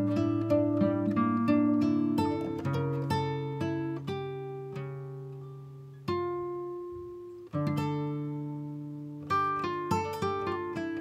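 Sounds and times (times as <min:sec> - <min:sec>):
acoustic guitar plucked chords: 0:00.0 - 0:11.0.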